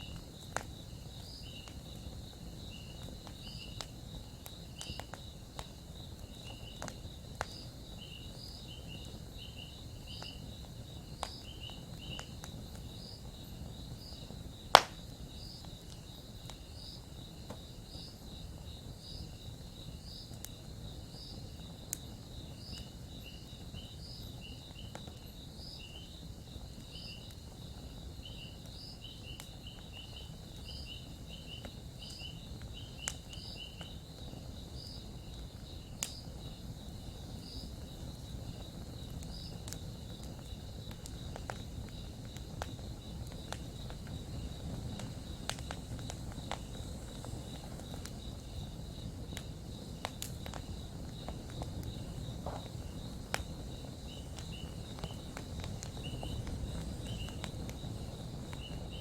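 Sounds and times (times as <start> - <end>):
campfire crackling: 0.0 - 59.0
insects chirping: 0.0 - 59.0.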